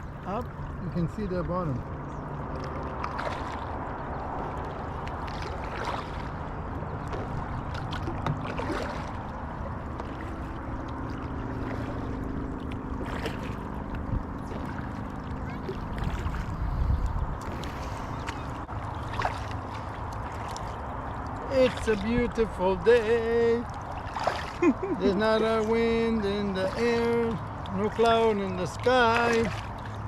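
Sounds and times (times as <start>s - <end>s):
paddles splashing in water: 0.0s - 30.0s
water washing along a hull: 0.0s - 30.0s.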